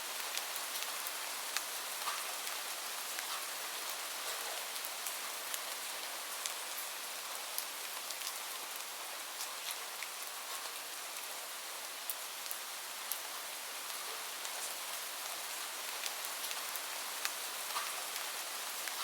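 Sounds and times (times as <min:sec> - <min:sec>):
steady rain hiss: 0:00.0 - 0:19.0
raindrops ticking on a surface: 0:00.1 - 0:19.0.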